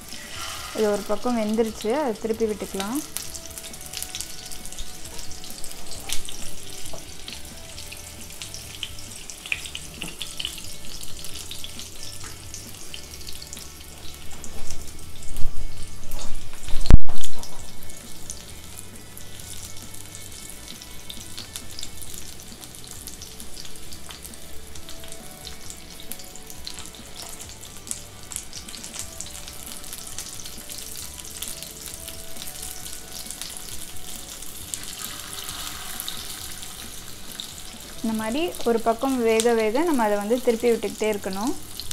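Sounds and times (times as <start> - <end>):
kebabs sizzling in oil: 0.0 - 41.9.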